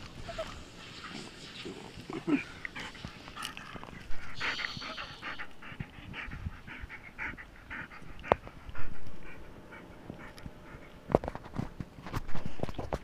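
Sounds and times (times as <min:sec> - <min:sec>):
dog panting: 0:00.2 - 0:11.7.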